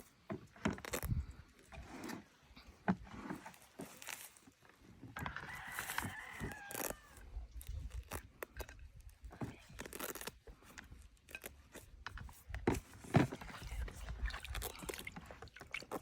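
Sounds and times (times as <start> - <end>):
crunching and scraping of handling: 0.0 - 16.0.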